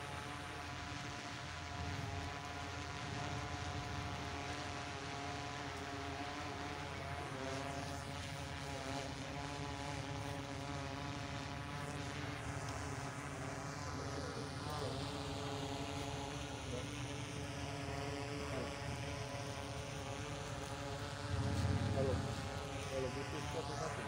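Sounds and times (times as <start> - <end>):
small aircraft propellers humming: 0.0 - 24.0.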